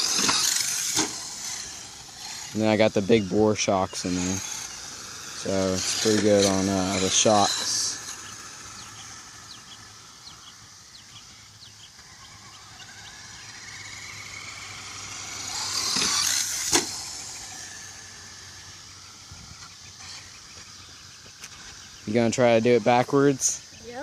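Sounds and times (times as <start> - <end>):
rc car electric motor and tyres: 0.0 - 24.0.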